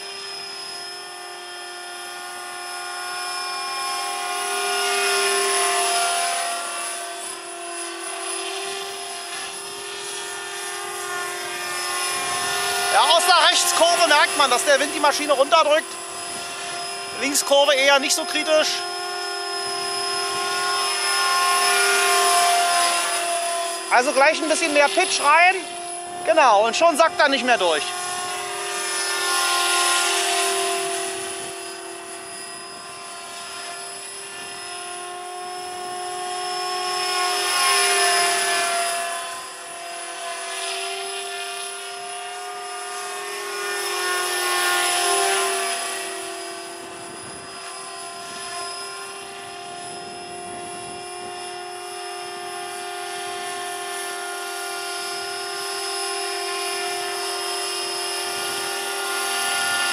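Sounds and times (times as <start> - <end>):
model helicopter motor whine: 0.0 - 59.9.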